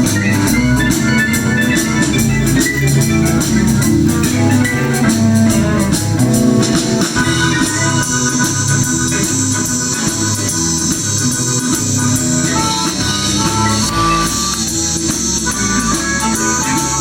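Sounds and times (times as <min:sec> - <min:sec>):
blues band music: 0:00.0 - 0:17.0.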